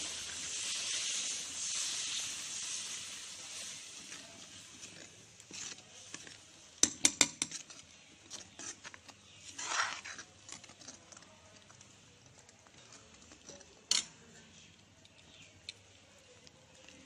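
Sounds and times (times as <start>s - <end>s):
sizzling: 0.0s - 17.0s.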